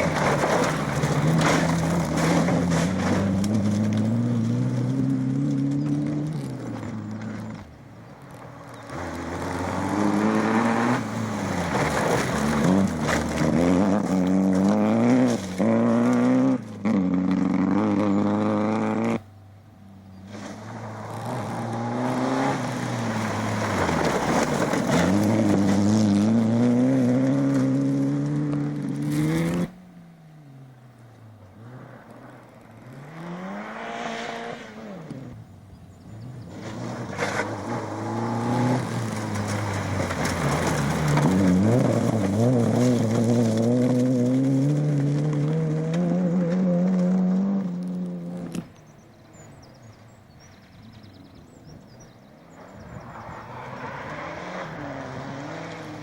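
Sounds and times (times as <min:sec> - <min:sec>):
distant engine: 0:00.0 - 0:56.0
rally car engines revving: 0:00.0 - 0:56.0.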